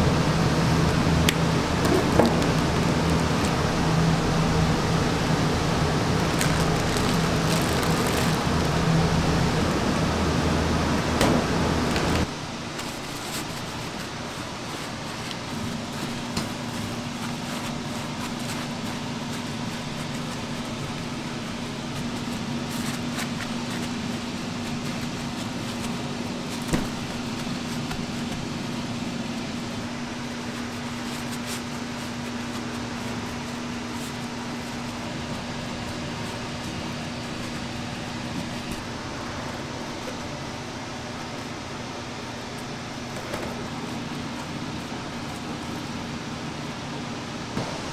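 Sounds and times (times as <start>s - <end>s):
ventilation fan whirring: 0.0s - 47.9s.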